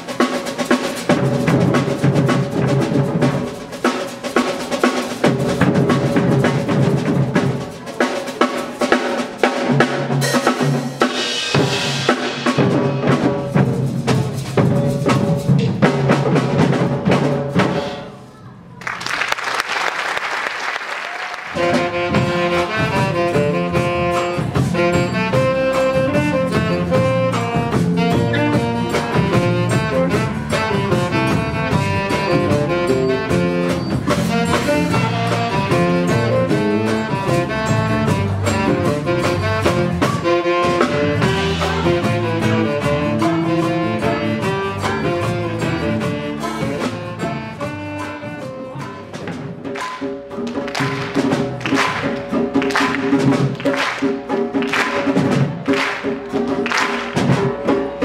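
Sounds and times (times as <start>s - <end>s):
band with saxophones and drums: 0.0s - 58.0s
percussion ensemble drumming: 0.0s - 58.0s.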